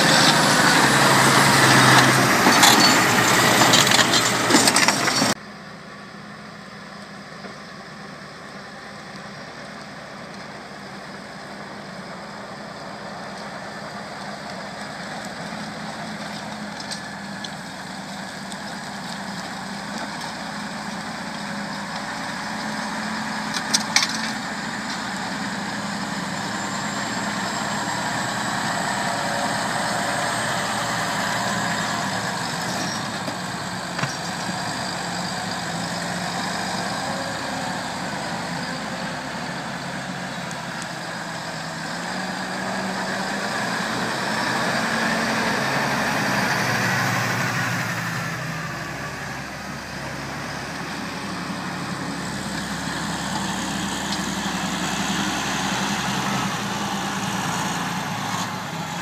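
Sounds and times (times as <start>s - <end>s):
tractor engines under load: 0.0s - 59.0s.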